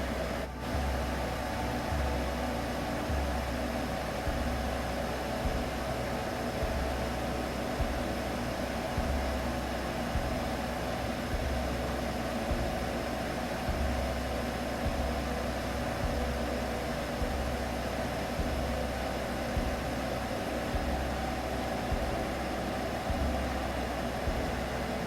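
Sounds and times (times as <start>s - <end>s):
droning hum over noise: 0.0s - 25.0s
soft low throb: 0.0s - 25.0s.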